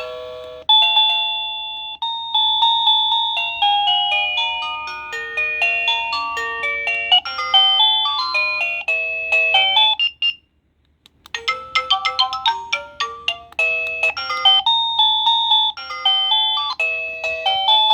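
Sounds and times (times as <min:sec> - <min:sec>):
doorbell chime melodies: 0:00.0 - 0:10.4, 0:11.4 - 0:17.9.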